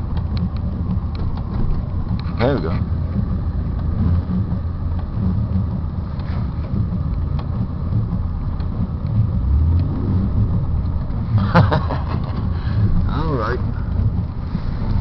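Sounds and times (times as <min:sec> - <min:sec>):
vehicle engine rumbling inside cab: 0:00.0 - 0:15.0.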